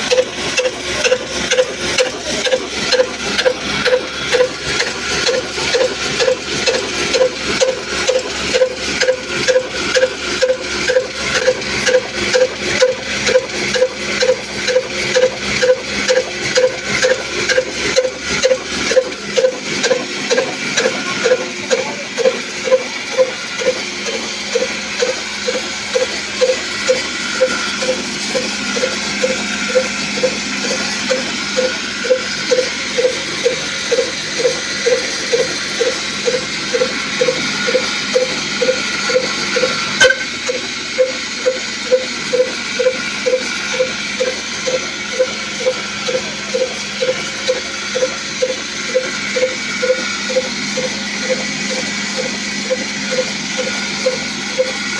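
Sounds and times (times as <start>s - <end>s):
diesel engine beating slowly: 0.0s - 54.9s.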